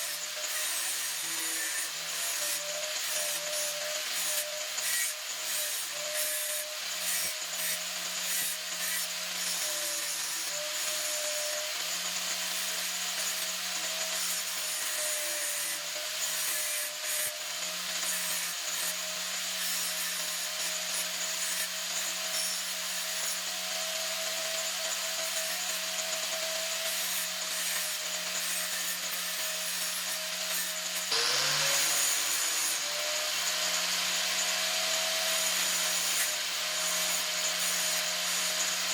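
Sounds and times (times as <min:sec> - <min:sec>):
power tool grinding metal: 0:00.0 - 0:38.9.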